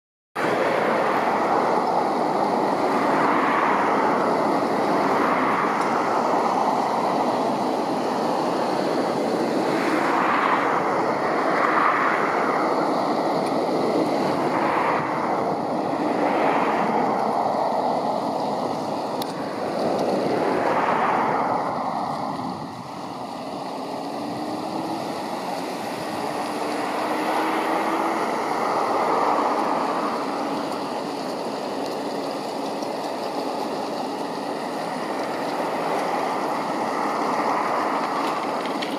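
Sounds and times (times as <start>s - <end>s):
flowing river water: 0.4s - 38.9s.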